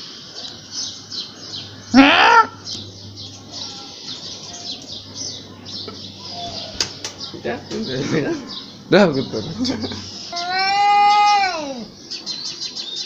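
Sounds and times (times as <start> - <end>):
loud rising bird cry: 0.0 - 13.0
small birds chirping: 0.0 - 13.0.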